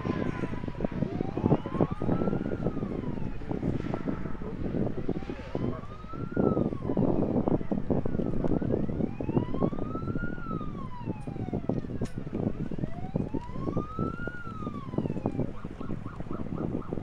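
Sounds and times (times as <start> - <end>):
dense crackling rumble: 0.0 - 17.0
wailing siren: 0.0 - 17.0.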